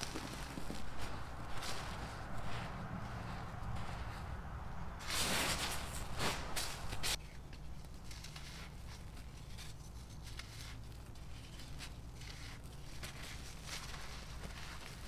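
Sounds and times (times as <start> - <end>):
gritty crunching and crackles: 0.0 - 15.0.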